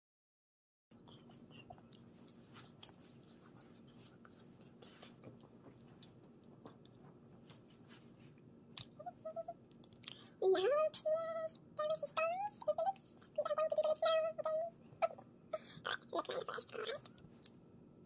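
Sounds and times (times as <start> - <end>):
steady low hum: 0.9 - 18.0.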